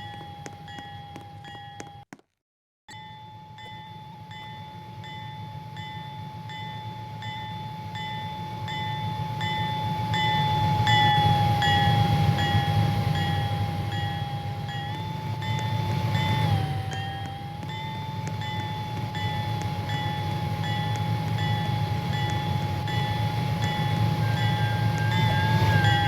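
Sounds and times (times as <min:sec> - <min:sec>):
railroad crossing bell ringing: 0:00.0 - 0:02.0, 0:02.9 - 0:26.0
freight train rumble: 0:03.0 - 0:26.0
steady high whine: 0:03.0 - 0:26.0.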